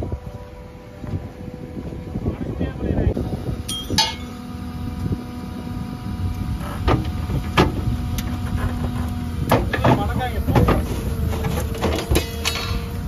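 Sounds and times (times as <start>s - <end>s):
excavator engine and hydraulics humming: 0.0s - 13.0s.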